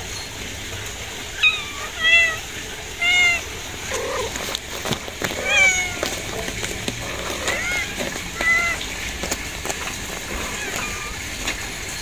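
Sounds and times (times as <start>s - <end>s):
kittens meowing: 1.4s - 11.7s.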